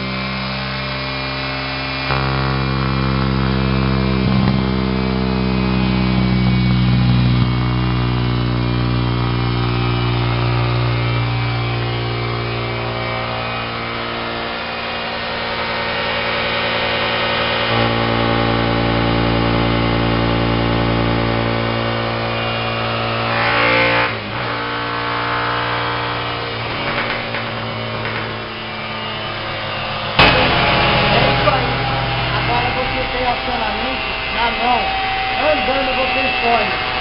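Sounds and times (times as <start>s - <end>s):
car engine idling: 0.0s - 23.4s, 24.1s - 37.0s.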